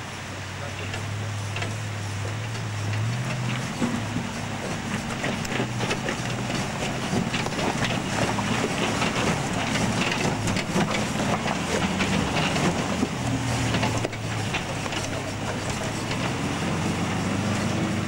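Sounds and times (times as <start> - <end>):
truck engine running under load: 0.0 - 18.0
stones crunching under tyres: 0.9 - 18.0.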